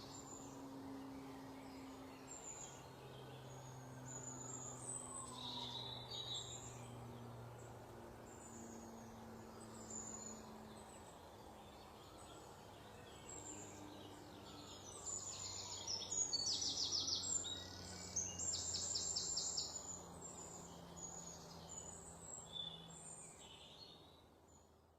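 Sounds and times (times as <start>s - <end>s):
songbirds chirping and singing: 0.0s - 24.7s.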